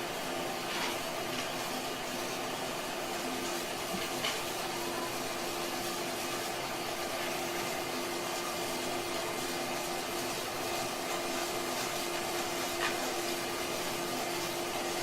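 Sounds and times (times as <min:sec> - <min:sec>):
pump motor humming: 0:00.0 - 0:15.0.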